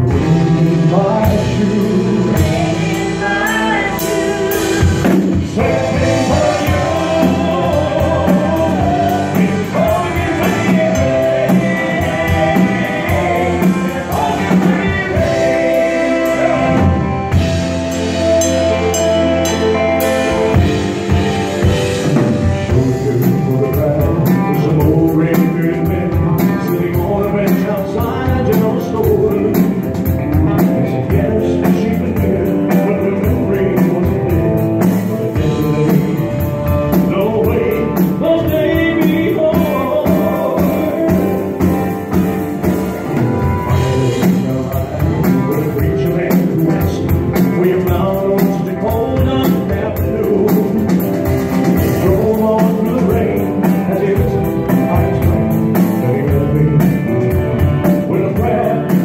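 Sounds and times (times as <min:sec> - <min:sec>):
man singing: 0:00.0 - 0:18.1, 0:19.5 - 0:59.0
rock band playing: 0:00.0 - 0:59.0.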